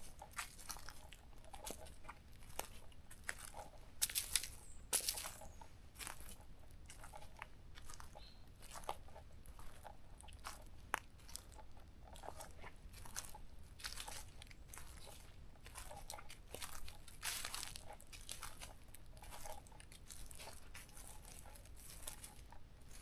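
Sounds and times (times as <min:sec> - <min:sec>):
footsteps crunching on forest trail: 0:00.0 - 0:23.0.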